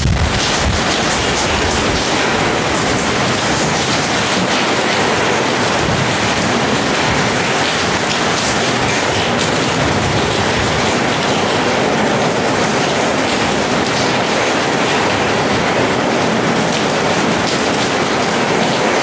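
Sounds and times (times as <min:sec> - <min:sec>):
heavy rain on metal roof: 0:00.0 - 0:19.0
water pouring off roof edge: 0:00.0 - 0:19.0.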